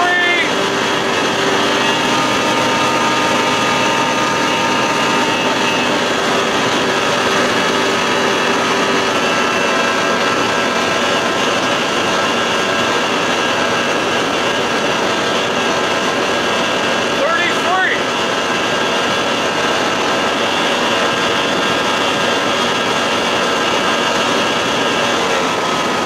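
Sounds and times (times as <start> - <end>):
outboard motor at full throttle: 0.0 - 26.0.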